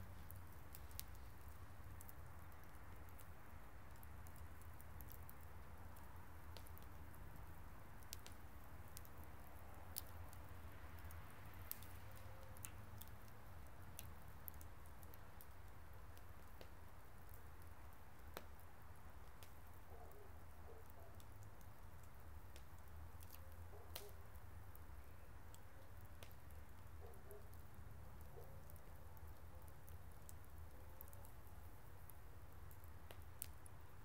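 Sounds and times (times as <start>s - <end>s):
low fire rumble: 0.0s - 34.0s
wood fire crackling and popping: 0.0s - 34.0s.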